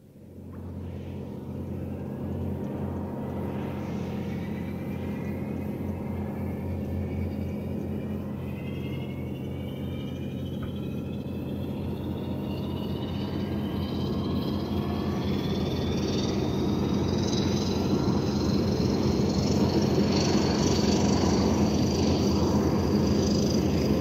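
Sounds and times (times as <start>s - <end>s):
rising turbine whine: 0.0s - 24.0s
turboprop engine starting: 0.1s - 24.0s.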